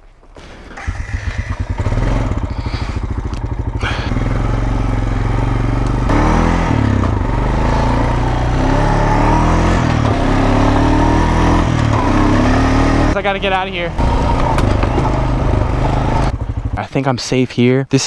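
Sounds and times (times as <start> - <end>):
quad engine idling and revving: 0.4 - 17.0.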